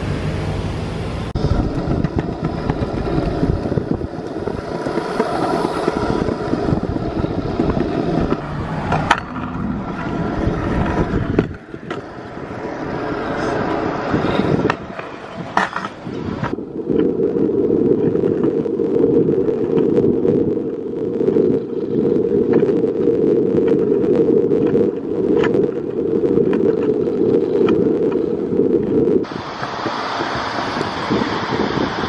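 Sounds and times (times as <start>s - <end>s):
scooter wheels rolling on concrete: 0.0s - 32.0s.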